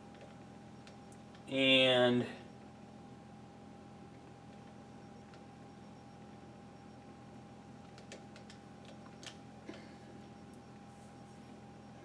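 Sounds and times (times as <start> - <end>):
low electrical hum: 0.0 - 12.0
thin steady whine: 0.0 - 12.0.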